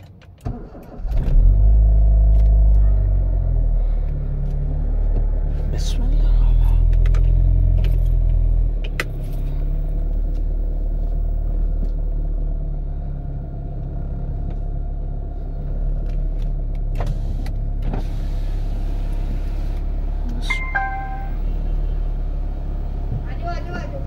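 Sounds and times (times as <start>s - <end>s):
car engine running: 0.5s - 24.0s.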